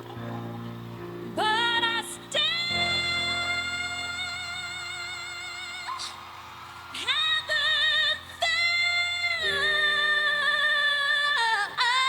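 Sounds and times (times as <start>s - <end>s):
woman singing: 1.3s - 6.2s, 6.9s - 12.0s.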